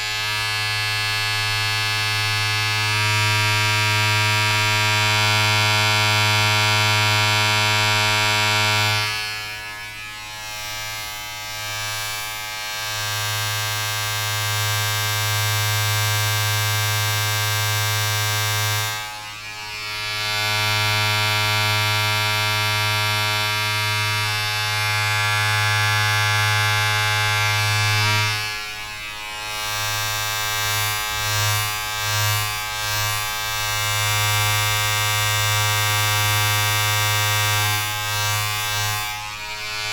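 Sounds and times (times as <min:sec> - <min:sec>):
appliance motor buzzing: 0:00.0 - 0:39.9.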